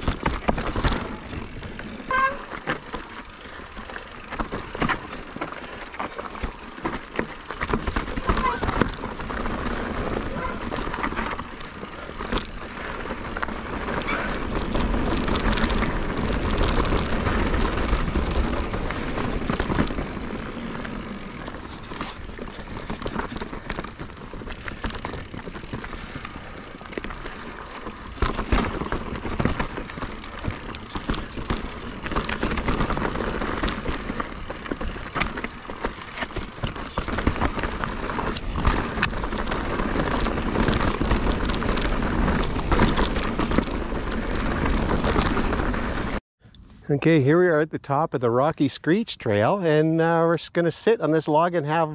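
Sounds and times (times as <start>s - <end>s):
tyres crunching on dirt and stones: 0.0s - 46.2s
bike clicks and rattles: 0.0s - 46.6s.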